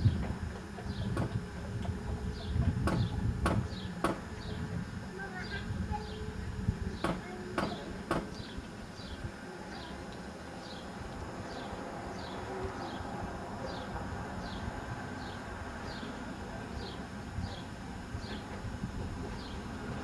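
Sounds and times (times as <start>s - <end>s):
tram rumbling: 0.0s - 20.0s.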